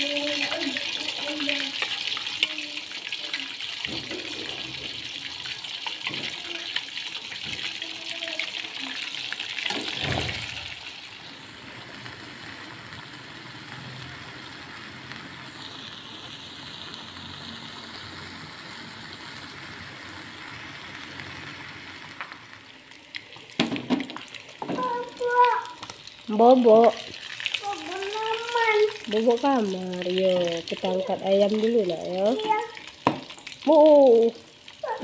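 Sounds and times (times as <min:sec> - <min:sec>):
broth bubbling and sizzling: 0:00.0 - 0:35.0.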